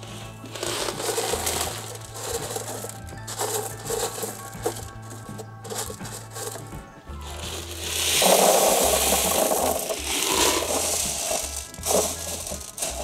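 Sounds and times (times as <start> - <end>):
background music with bass line: 0.0 - 13.0
clay pebbles rattling: 0.0 - 13.0.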